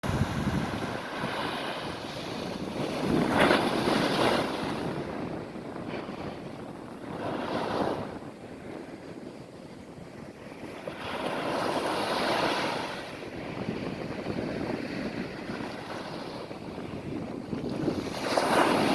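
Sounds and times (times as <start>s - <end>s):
waves breaking on sandy beach: 0.0s - 18.9s.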